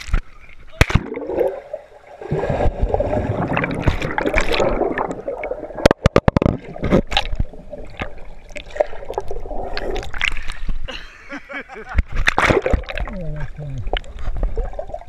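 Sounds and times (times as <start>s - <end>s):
underwater churning and bubbling: 0.0s - 10.9s, 12.0s - 15.0s.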